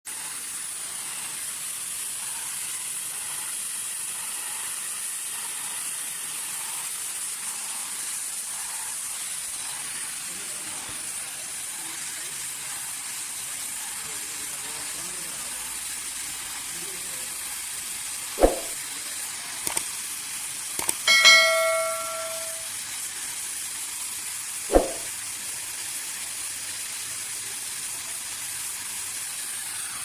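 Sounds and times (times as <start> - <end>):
cutting torch hissing: 0.1 - 20.9, 23.0 - 30.0.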